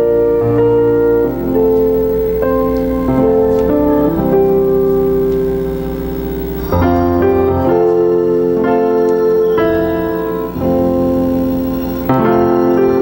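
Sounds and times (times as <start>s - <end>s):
keyboard playing slow chords: 0.0s - 13.0s.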